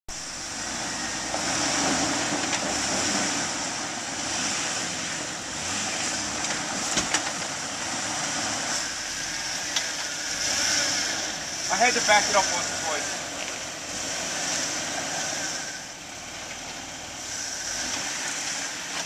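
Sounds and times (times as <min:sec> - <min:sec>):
vehicle engine at low revs: 0:00.1 - 0:19.0.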